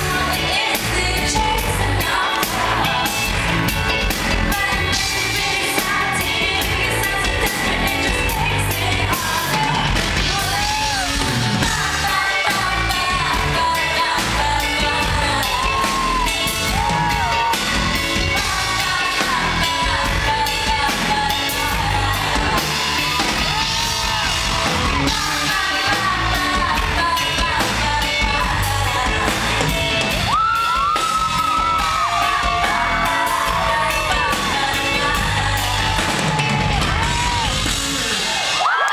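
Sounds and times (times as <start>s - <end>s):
woman singing: 0.0s - 23.8s, 25.0s - 37.4s
live pop band playing: 0.0s - 38.9s.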